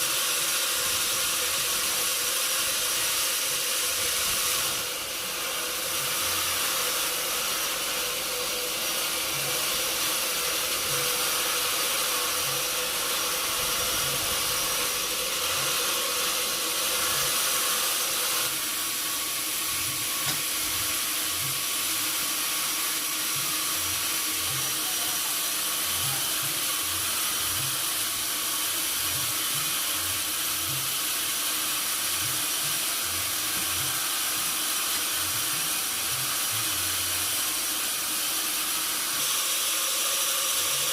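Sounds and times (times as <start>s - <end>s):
sawmill machinery hiss: 0.0s - 40.9s
sawmill machinery hum: 0.0s - 40.9s.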